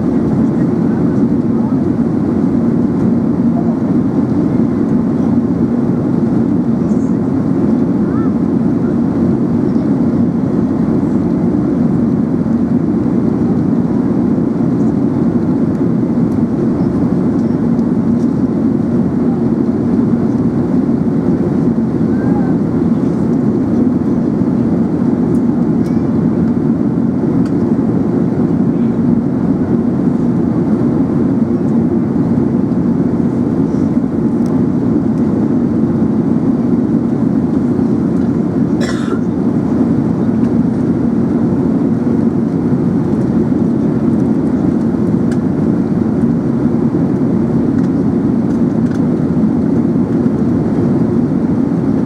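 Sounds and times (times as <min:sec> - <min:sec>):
airplane cabin engine rush: 0:00.0 - 0:52.0.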